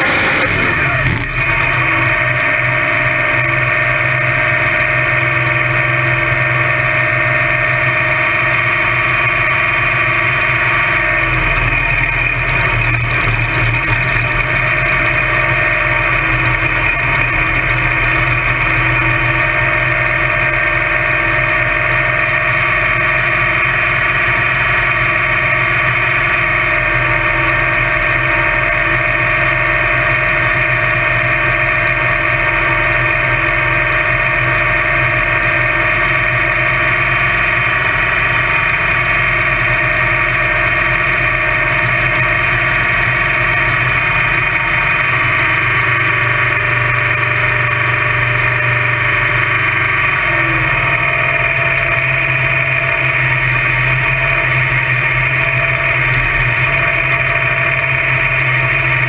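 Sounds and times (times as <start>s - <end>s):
dragster engine idling: 0.0s - 59.0s.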